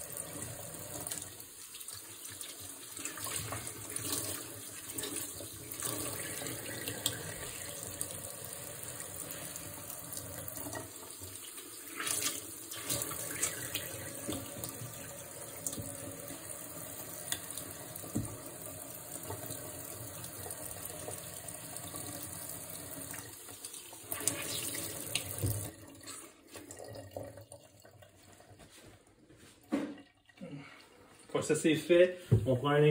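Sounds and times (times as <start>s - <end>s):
faucet running into steel sink: 0.0s - 28.2s
cloth rinsed by hand: 0.0s - 29.0s.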